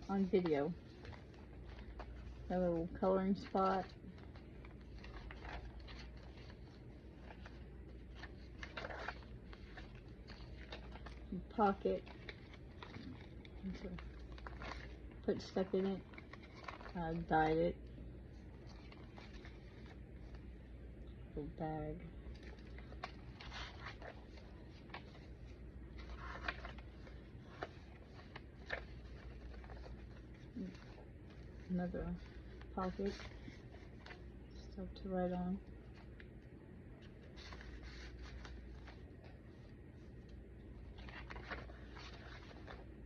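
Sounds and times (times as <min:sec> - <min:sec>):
paper pages rustling: 0:00.0 - 0:17.6, 0:18.3 - 0:20.5, 0:22.2 - 0:34.4, 0:37.0 - 0:43.0.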